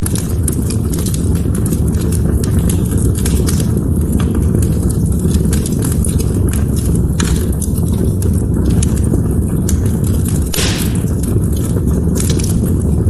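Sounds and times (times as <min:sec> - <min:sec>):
low roar of burning: 0:00.0 - 0:13.0
wood fire crackling and popping: 0:00.0 - 0:13.0.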